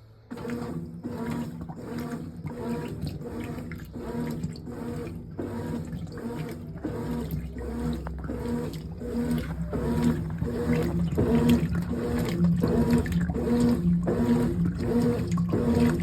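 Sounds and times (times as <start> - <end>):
washing machine motor hum: 0.0 - 16.0
water sloshing in washing machine: 0.0 - 16.0.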